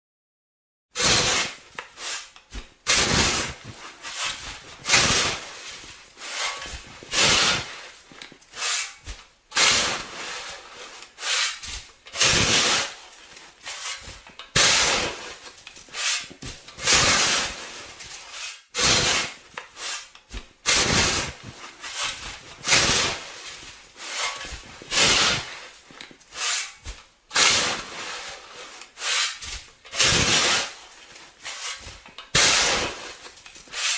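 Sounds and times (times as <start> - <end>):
snow shovel scraping snow: 1.0 - 33.9.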